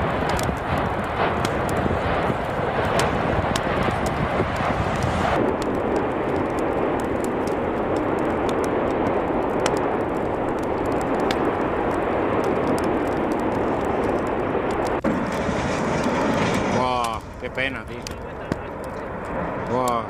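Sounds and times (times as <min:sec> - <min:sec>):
faint crackles: 0:00.0 - 0:20.0
volcano roaring: 0:00.0 - 0:20.0.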